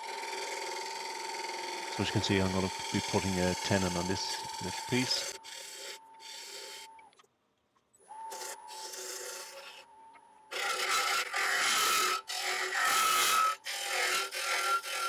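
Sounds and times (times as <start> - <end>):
gouge cutting wood on a lathe: 0.0 - 7.0, 8.3 - 9.9, 10.5 - 15.0.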